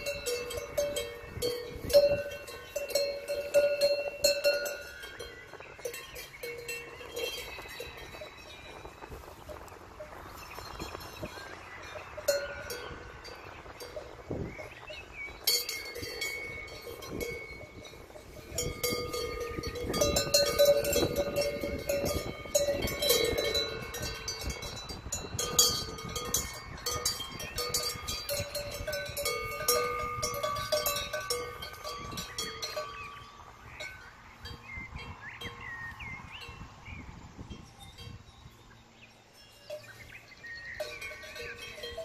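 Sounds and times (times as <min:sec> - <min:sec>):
cowbells clanking: 0:00.0 - 0:42.0.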